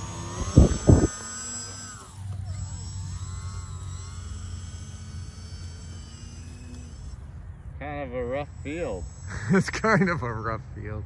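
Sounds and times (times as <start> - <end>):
model plane propeller whining: 0.0 - 10.8.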